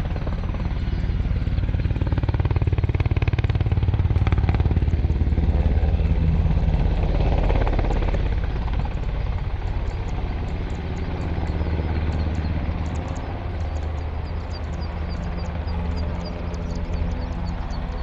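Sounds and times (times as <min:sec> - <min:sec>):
aircraft droning overhead: 0:00.0 - 0:18.0.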